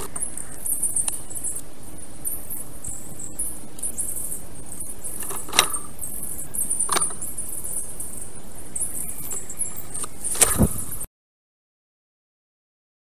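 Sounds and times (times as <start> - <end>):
high-pitched chirping: 0.0 - 11.1.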